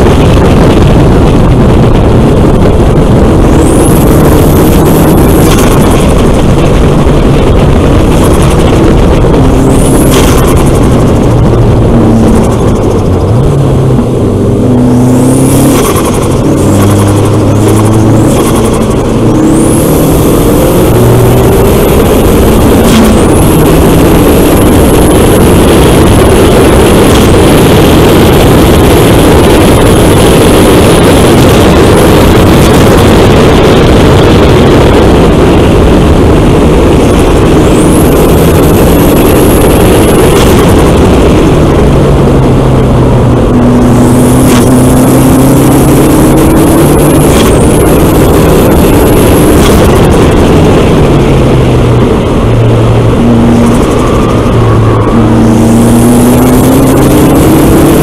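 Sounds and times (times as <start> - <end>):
car engine accelerating hard: 0.0 - 58.0
wind rushing: 0.0 - 58.0.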